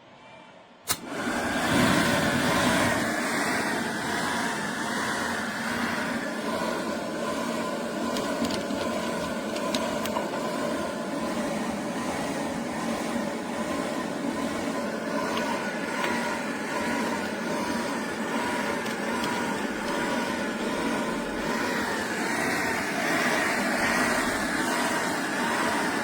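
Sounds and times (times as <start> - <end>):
air compressor running: 0.9 - 26.0.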